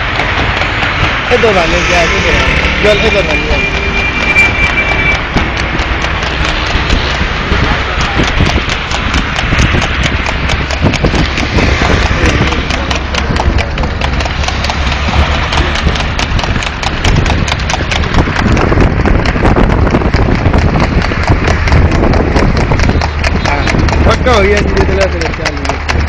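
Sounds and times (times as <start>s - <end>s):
horse hooves clip-clopping: 0.0s - 26.0s
steady low rumble: 0.0s - 26.0s.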